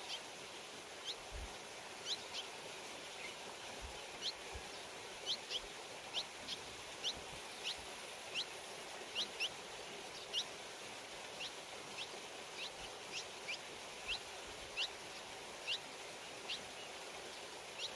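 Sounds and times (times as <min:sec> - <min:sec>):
steady outdoor hiss: 0:00.0 - 0:17.9
small bird chirping: 0:01.0 - 0:01.2, 0:02.0 - 0:02.6, 0:03.2 - 0:10.5, 0:11.4 - 0:17.9.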